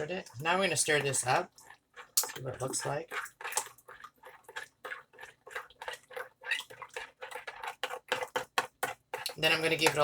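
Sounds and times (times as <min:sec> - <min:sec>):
sauce being stirred: 0:00.0 - 0:10.0.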